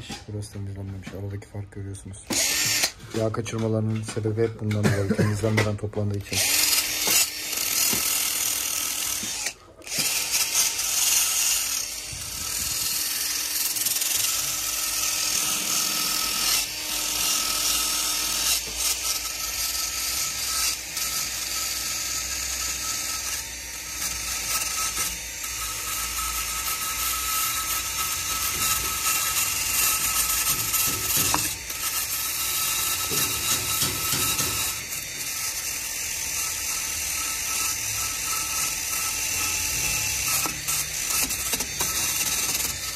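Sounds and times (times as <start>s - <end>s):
drill motor whine: 2.2s - 3.1s, 6.1s - 42.9s
wire brush scrubbing metal: 6.3s - 42.9s.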